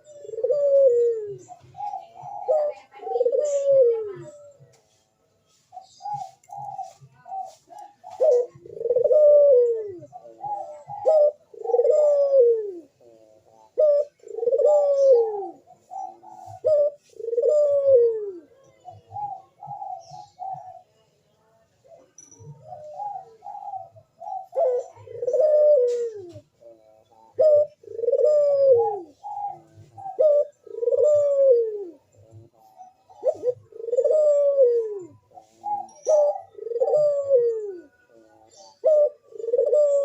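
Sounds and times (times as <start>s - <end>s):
dove cooing: 0.0s - 40.0s
small birds chirping: 0.0s - 40.0s.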